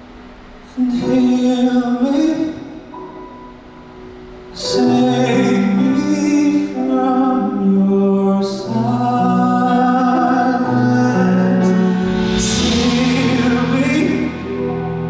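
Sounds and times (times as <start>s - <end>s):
man singing a slow song: 0.6s - 3.1s, 4.5s - 15.0s.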